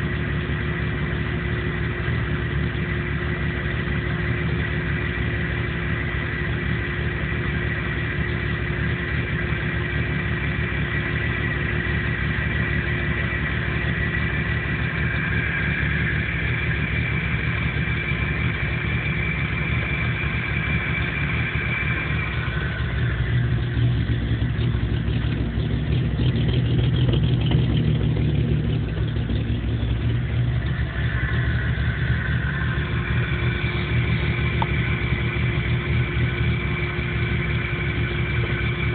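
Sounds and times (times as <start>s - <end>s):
car engine idling roughly: 0.0s - 38.9s
faint high whine: 0.0s - 38.9s.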